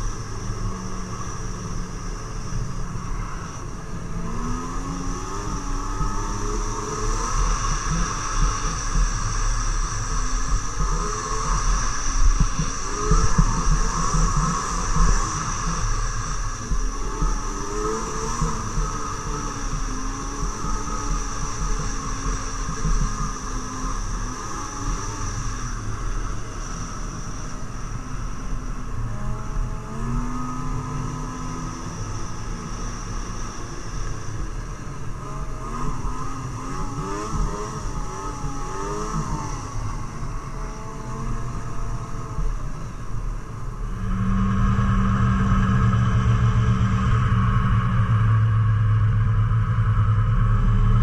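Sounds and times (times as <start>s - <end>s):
snowmobile engine running: 0.0s - 51.0s.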